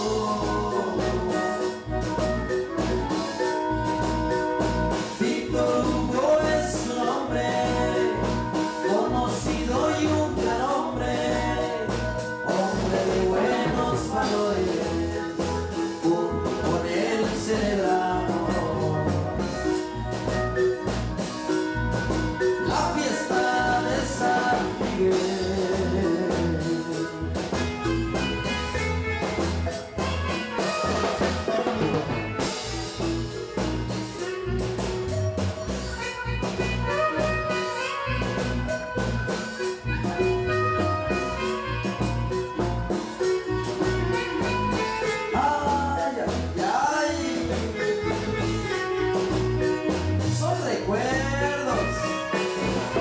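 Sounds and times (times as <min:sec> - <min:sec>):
marimba band dance music: 0:00.0 - 0:53.0.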